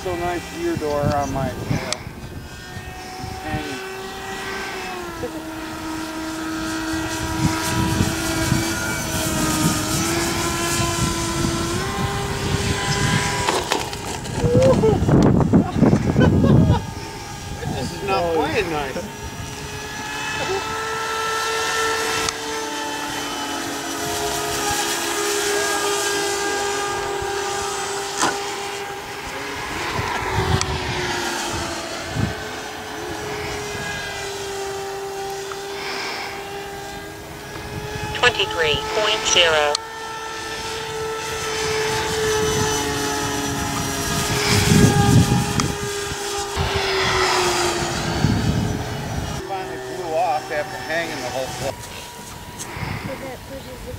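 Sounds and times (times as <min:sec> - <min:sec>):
wind buffeting microphone: 0:00.0 - 0:38.2, 0:40.4 - 0:49.5
rc plane motors whining: 0:00.0 - 0:53.9.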